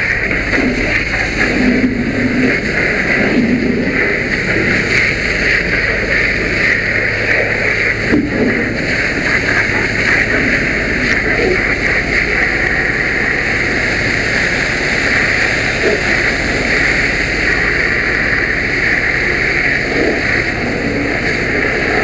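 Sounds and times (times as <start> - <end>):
fire hose spraying water: 0.0 - 22.0
low rumble: 0.0 - 22.0.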